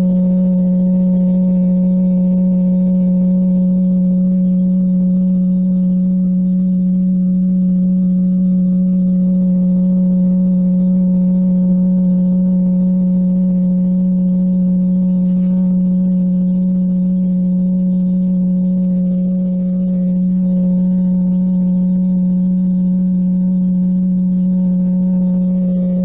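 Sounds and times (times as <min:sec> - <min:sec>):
low humming drone: 0:00.0 - 0:26.0.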